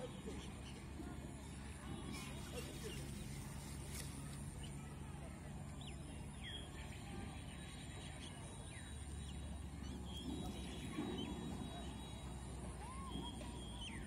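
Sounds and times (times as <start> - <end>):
birds chirping: 0.0 - 14.0
low steady rumble: 0.0 - 14.0.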